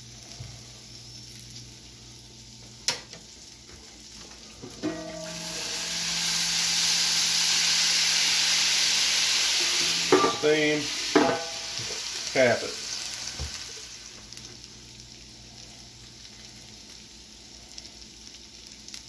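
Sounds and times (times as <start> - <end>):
food sizzling on griddle: 0.0 - 19.0
water hissing on hot griddle: 0.0 - 19.0.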